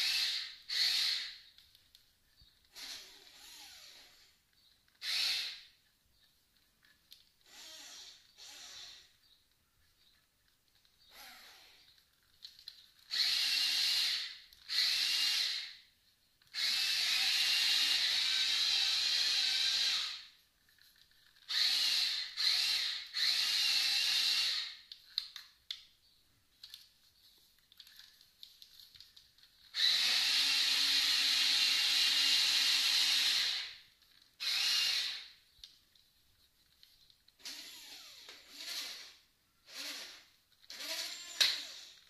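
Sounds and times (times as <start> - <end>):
toy excavator motors whining: 0.0 - 25.9, 27.7 - 35.8, 36.8 - 42.0.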